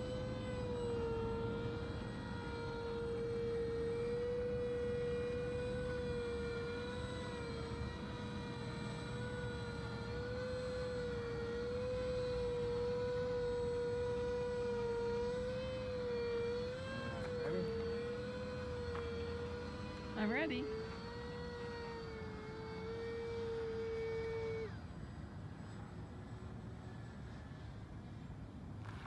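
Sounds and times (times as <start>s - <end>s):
rc aircraft propellers whining: 0.0s - 29.0s.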